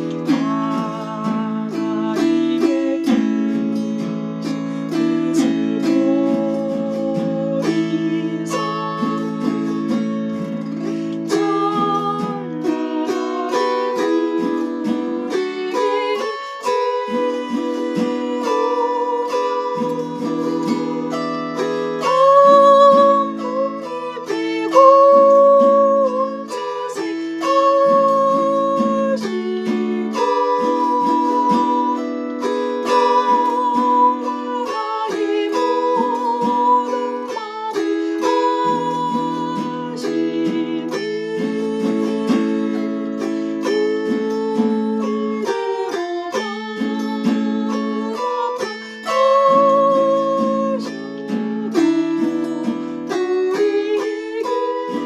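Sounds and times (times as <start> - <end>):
zither chords strummed: 0.0 - 55.0.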